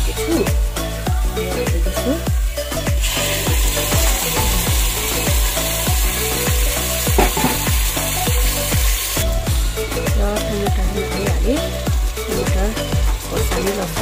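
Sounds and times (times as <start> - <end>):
background music with beat: 0.0 - 14.0
paste sizzling in hot oil: 0.2 - 14.0.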